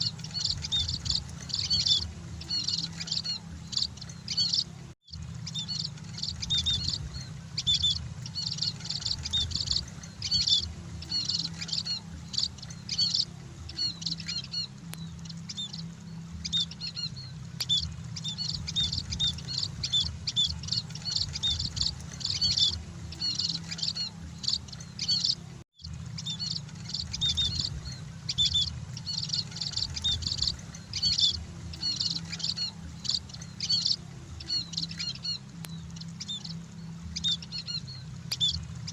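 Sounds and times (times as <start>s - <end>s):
birds chirping: 0.0s - 38.9s
steady low hum: 0.0s - 38.9s.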